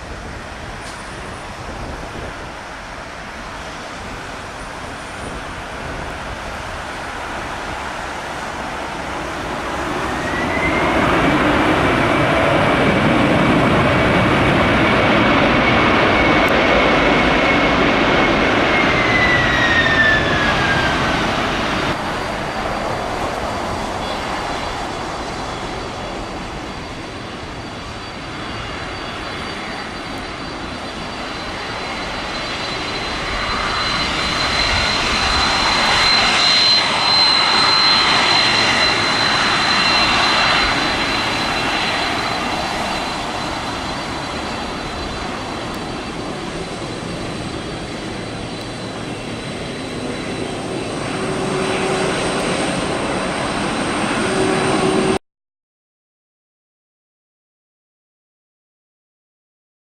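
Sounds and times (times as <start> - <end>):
jet engines roaring: 0.0 - 55.2.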